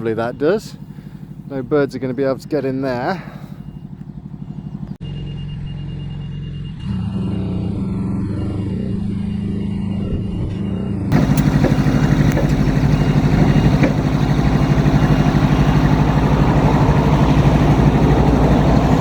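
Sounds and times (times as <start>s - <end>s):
engine running: 0.0s - 19.0s
low hum: 3.2s - 19.0s.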